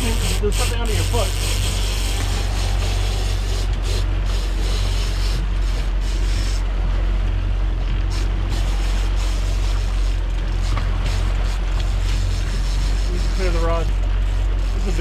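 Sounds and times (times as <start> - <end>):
outboard motor droning: 0.0 - 15.0
wind and water rushing: 0.0 - 15.0.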